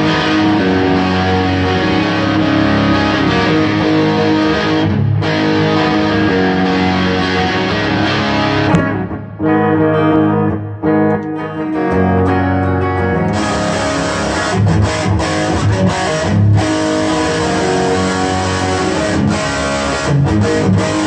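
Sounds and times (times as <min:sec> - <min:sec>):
electric guitar playing: 0:00.0 - 0:21.0.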